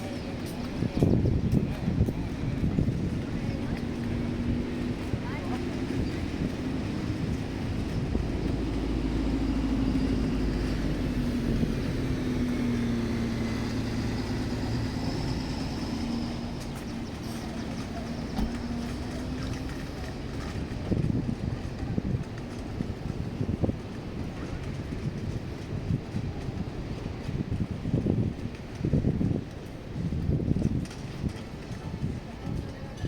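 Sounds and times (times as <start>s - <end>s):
engine humming: 0.0s - 33.0s
outdoor background noise: 0.0s - 33.0s.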